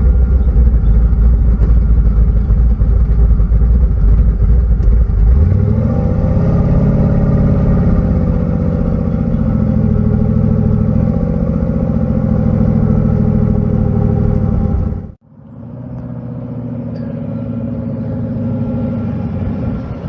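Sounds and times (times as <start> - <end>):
large vehicle engine rumbling: 0.0 - 20.0.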